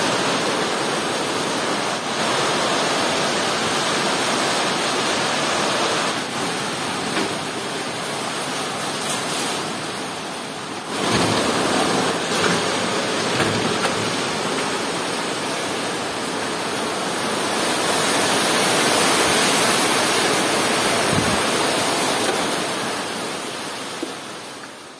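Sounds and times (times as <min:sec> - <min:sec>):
heavy rain on leaves: 0:00.0 - 0:24.9.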